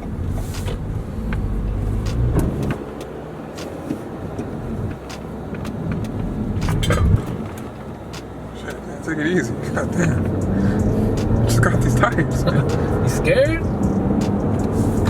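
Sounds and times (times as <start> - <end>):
car engine: 0.0 - 15.0
road noise: 0.0 - 15.0.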